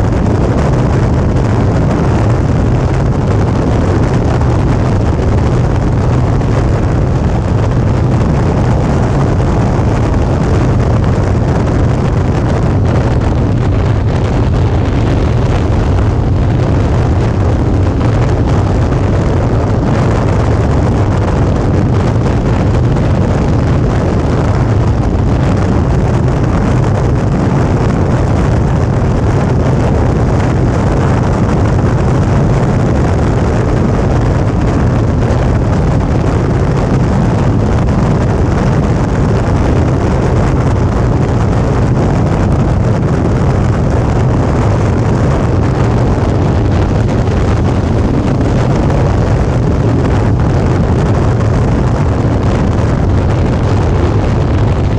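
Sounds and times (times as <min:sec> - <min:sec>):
motorcycle engine running steadily: 0:00.0 - 0:54.9
wind rushing over microphone: 0:00.0 - 0:54.9.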